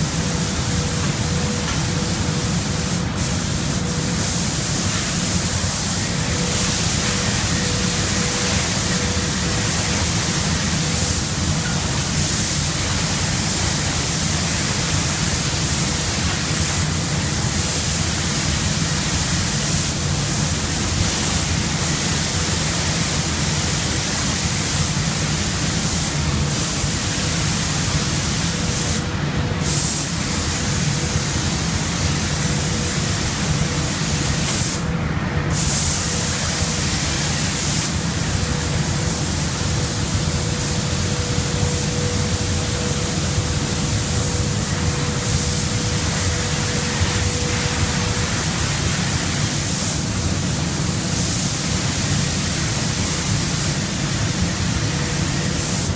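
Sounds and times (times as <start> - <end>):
paint spray gun hissing: 0.0 - 34.9, 35.5 - 55.9
steady low hum: 0.0 - 55.9.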